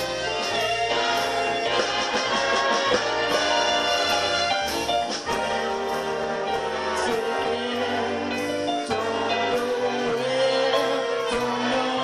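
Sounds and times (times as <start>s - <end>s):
big band dance music: 0.0s - 12.0s.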